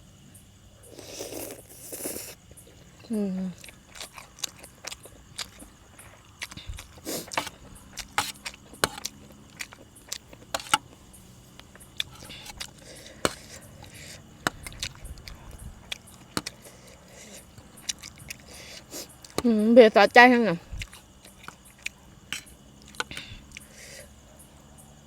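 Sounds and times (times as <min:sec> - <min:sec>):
chewing crunchy food: 0:00.8 - 0:19.5, 0:20.7 - 0:24.7.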